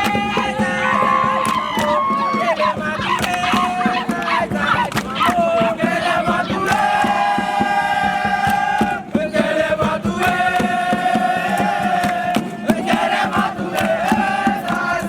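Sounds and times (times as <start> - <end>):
fast beat of sharp strikes: 0.0 - 15.0
voices chanting in unison: 0.0 - 15.0.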